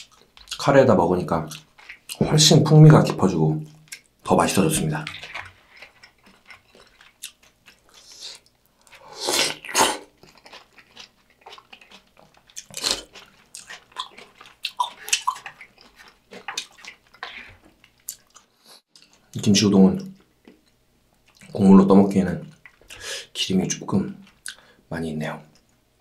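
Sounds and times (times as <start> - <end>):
food chewing with mouth clicks: 0.0 - 21.6, 22.4 - 24.8.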